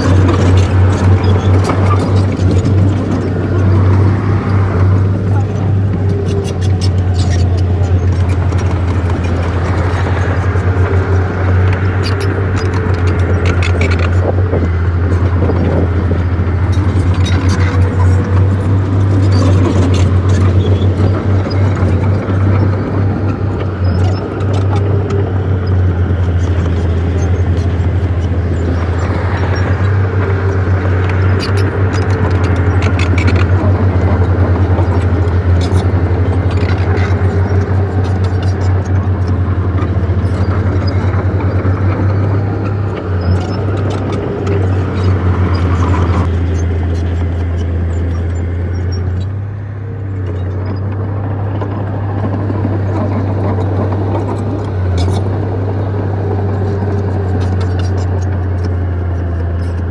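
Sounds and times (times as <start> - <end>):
metallic clanks and clicks: 0.0 - 49.4, 50.0 - 59.9
bulldozer diesel engine: 0.0 - 59.9.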